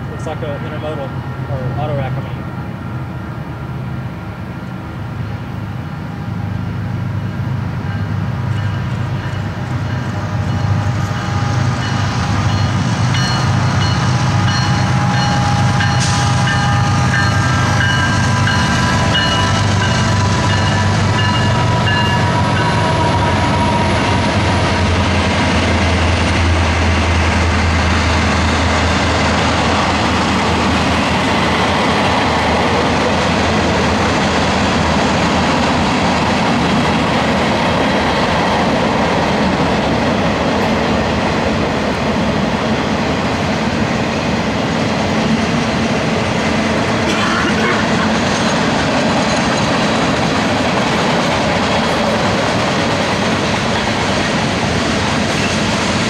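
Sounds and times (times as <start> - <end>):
freight train cars rolling past: 0.0 - 56.0.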